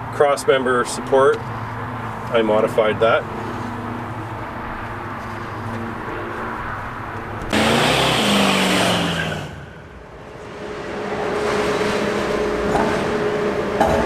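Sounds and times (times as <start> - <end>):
vehicle engine surging: 1.5 - 14.0.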